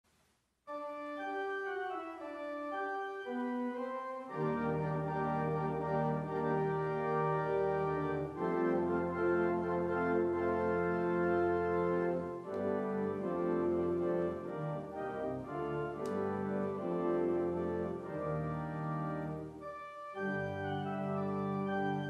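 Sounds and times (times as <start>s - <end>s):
organ playing chords: 0.7s - 22.0s.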